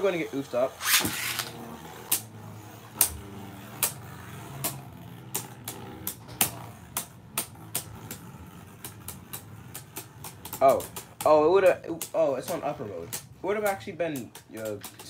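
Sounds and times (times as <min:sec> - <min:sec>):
spinning tops whirring: 0:00.0 - 0:15.0
spinning tops clacking together: 0:00.8 - 0:15.0.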